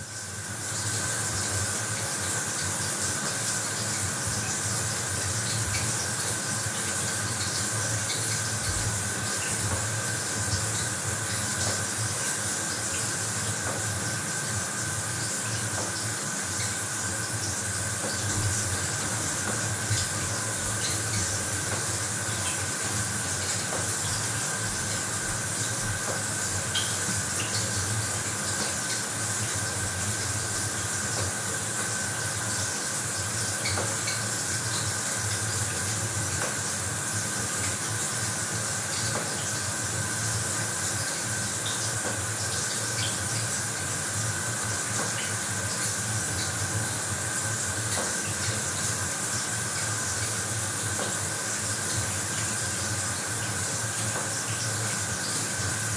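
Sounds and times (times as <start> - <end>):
shower running: 0.0 - 55.9.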